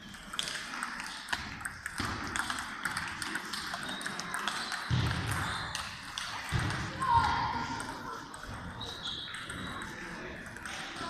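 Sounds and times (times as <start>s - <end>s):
table tennis balls clicking: 0.0s - 6.9s, 7.7s - 11.0s.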